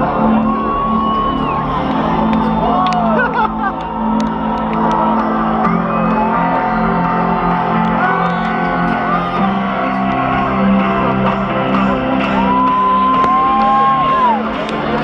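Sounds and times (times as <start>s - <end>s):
crowd shouting and whooping: 0.0s - 15.0s
loud live concert music: 0.0s - 15.0s.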